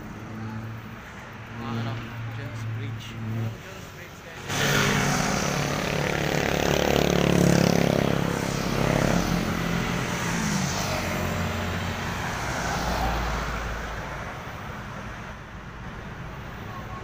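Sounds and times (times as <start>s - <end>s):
motorcycle passing: 0.0s - 15.4s
road traffic hum: 0.0s - 17.0s.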